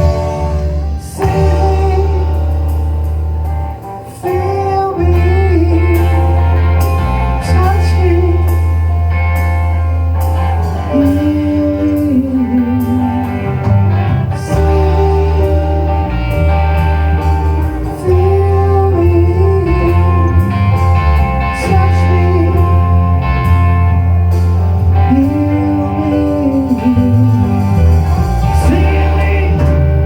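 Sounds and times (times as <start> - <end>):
person singing: 0.0 - 9.2, 10.2 - 30.0
live blues band playing: 0.0 - 30.0.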